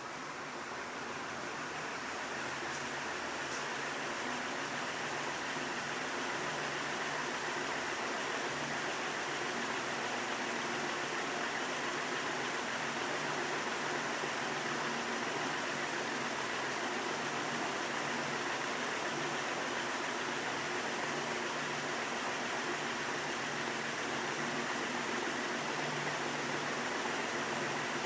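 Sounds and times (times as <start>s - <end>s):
ceiling fan running: 0.0s - 28.0s.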